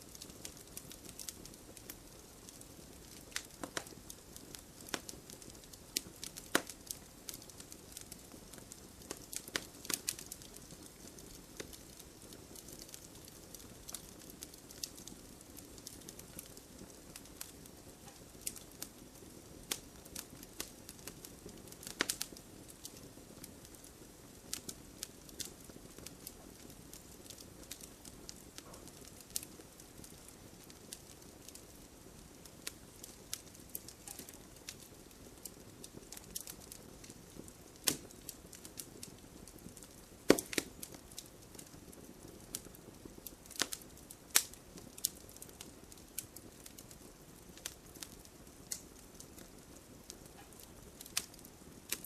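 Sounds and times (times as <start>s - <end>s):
campfire crackling and popping: 0.0s - 52.0s
fire low hiss: 0.0s - 52.0s.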